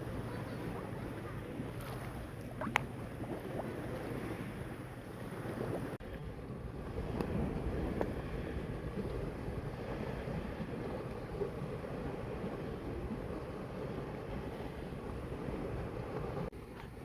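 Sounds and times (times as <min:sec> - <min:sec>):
sea washing: 0:00.0 - 0:17.0
wind rumbling on microphone: 0:00.0 - 0:17.0.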